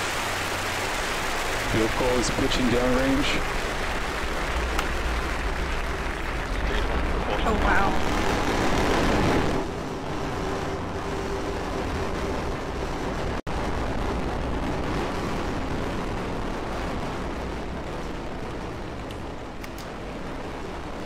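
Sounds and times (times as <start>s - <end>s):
rocket engines rumbling: 0.0s - 21.0s.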